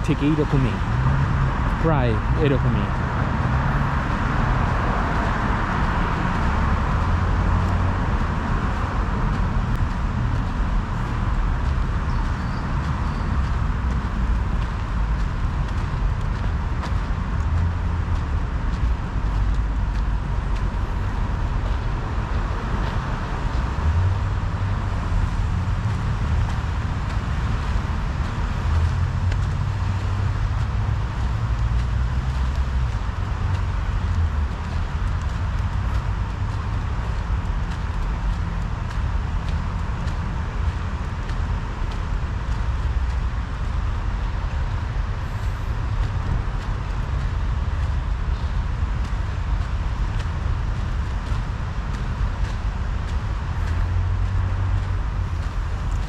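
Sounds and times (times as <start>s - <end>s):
road traffic rumble and hiss: 0.0s - 56.0s.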